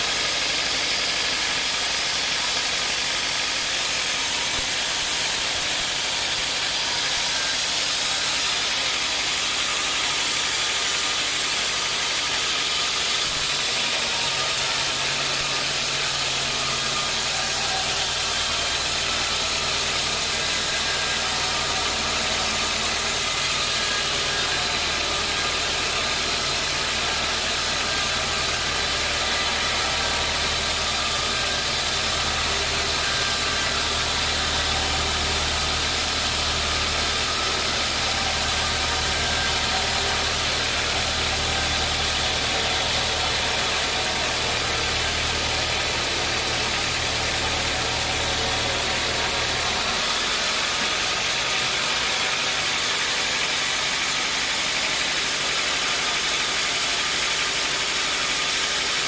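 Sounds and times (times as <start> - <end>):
sawmill machinery din: 0.0 - 59.0.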